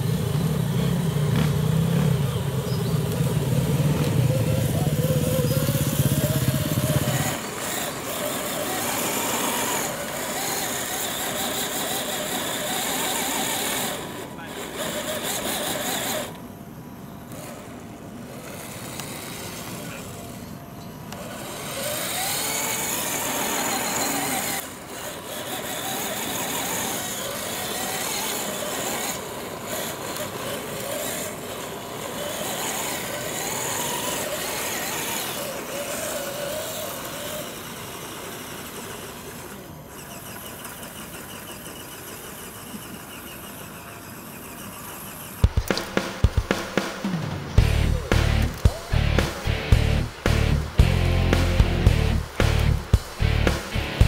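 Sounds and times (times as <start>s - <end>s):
electric motor and gear whine: 0.0s - 54.0s.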